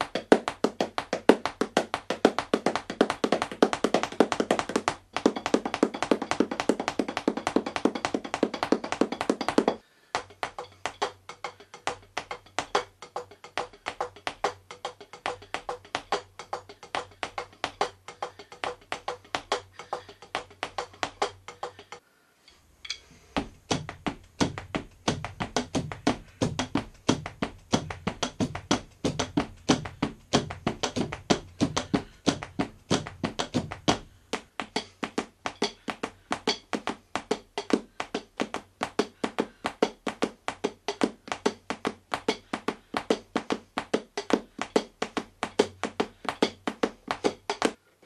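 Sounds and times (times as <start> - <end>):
drumsticks tapping practice pads: 0.0 - 47.8.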